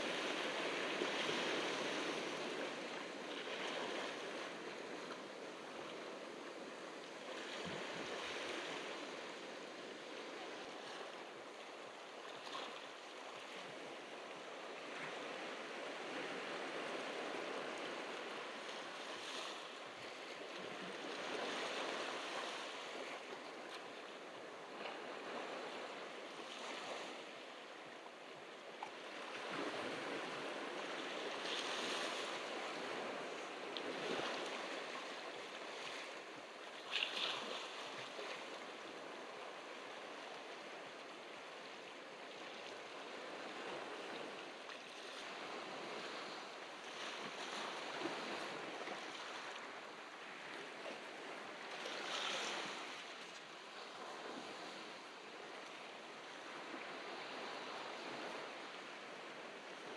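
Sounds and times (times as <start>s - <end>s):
ocean surf on beach: 0.0s - 12.0s, 13.5s - 59.9s.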